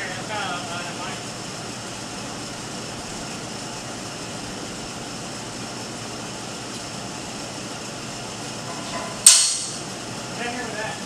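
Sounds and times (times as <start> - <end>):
steady machinery noise: 0.0 - 11.0.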